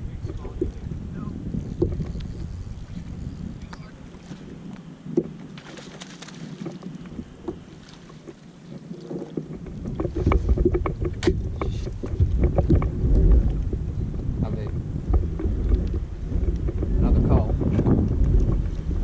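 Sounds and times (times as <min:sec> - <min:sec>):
wind buffeting microphone: 0:00.0 - 0:19.0
light knocks and clicks on boat: 0:00.1 - 0:00.9, 0:01.6 - 0:13.9, 0:14.5 - 0:18.9.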